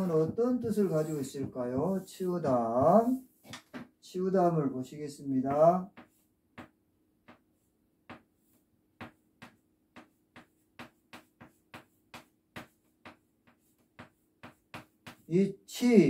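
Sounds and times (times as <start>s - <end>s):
chalk tapping on blackboard: 0.0s - 3.9s, 5.4s - 15.4s.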